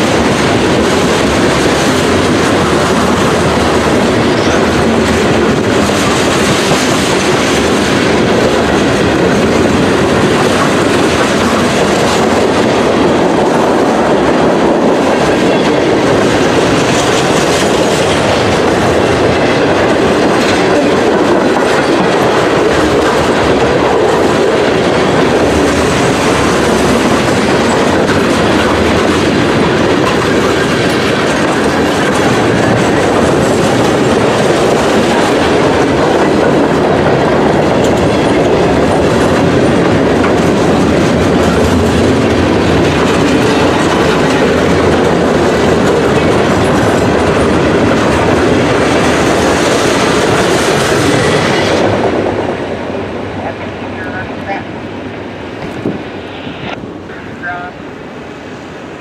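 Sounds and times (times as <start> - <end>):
freight train wheels clattering on rails: 0.0 - 57.2.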